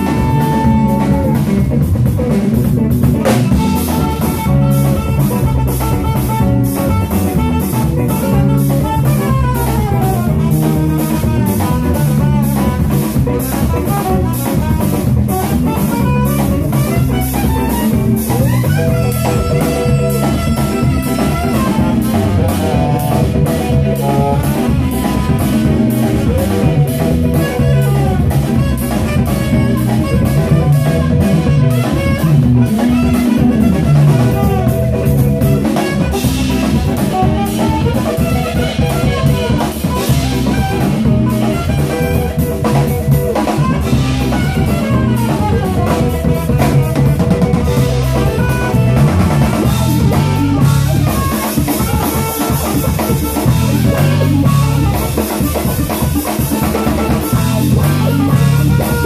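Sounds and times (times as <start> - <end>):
drum kit beat: 0.0 - 59.0
electric bass: 0.0 - 59.0
electric guitar: 0.0 - 59.0
saxophone: 0.0 - 59.0.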